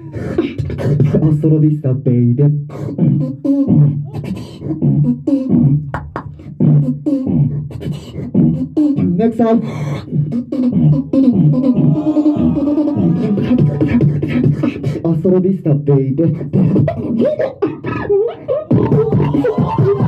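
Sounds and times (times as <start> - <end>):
beatboxing into a microphone: 0.0 - 20.0.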